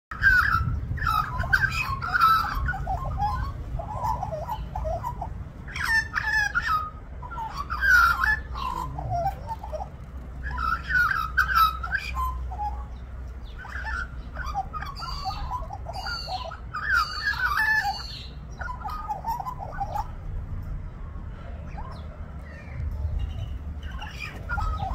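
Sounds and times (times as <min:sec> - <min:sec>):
magpie warbling: 0:00.1 - 0:20.3, 0:23.8 - 0:24.9.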